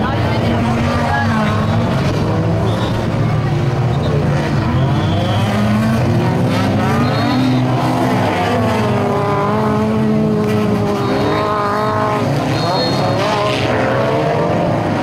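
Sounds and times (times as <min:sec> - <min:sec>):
stock car engines revving: 0:00.0 - 0:15.0.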